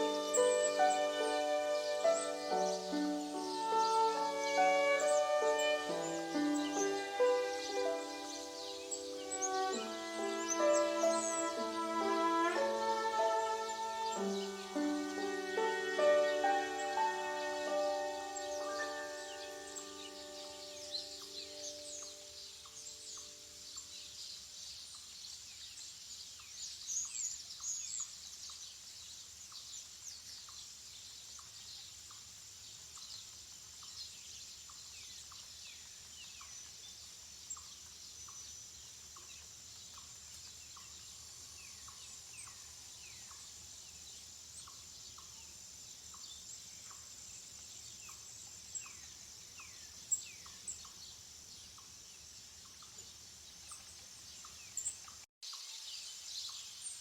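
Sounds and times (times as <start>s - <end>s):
high-pitched hiss: 0.0s - 57.0s
small birds chirping: 0.0s - 57.0s.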